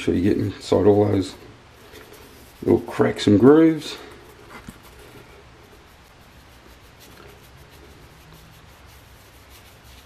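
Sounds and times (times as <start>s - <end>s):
paintbrush scrubbing: 0.3s - 10.0s.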